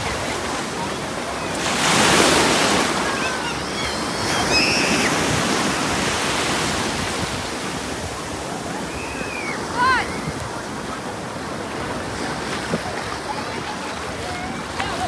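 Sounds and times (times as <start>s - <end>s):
surf washing onto beach: 0.0s - 15.0s
wave breaking: 0.0s - 15.0s.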